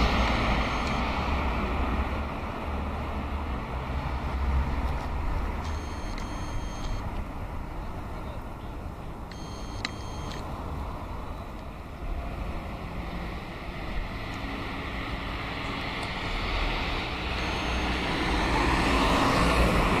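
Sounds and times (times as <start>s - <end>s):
vehicle engine and tyre noise: 0.0s - 20.0s.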